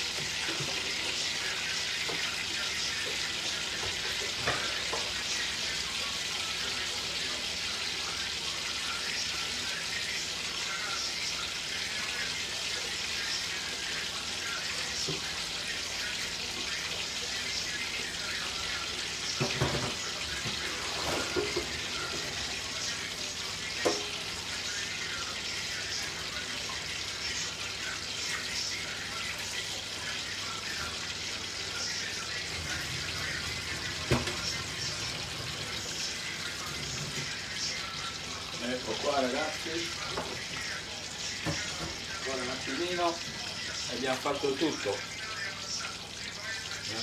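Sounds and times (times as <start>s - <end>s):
aubergine sizzling in oil: 0.0s - 47.0s.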